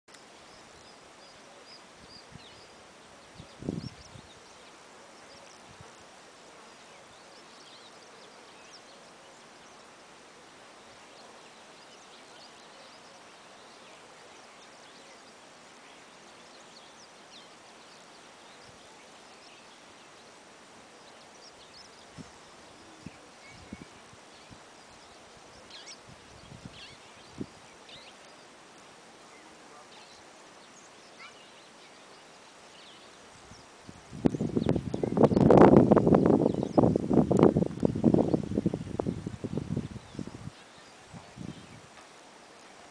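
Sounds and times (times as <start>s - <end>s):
faint bird chirps: 0.1s - 37.0s
faint hiss: 0.1s - 42.9s.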